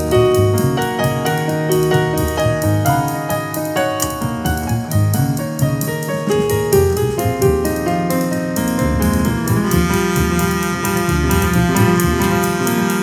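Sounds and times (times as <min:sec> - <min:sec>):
instrumental music with bass: 0:00.0 - 0:13.0.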